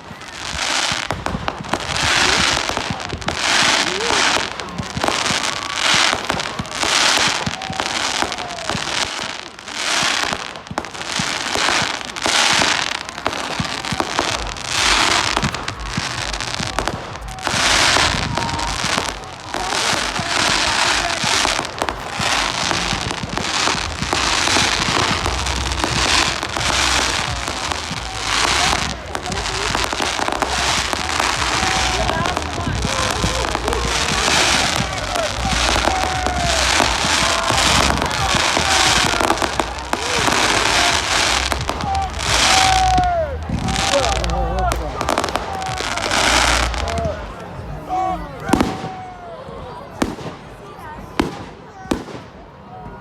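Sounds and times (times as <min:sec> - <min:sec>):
fireworks bursting: 0:00.0 - 0:49.2, 0:50.0 - 0:53.0.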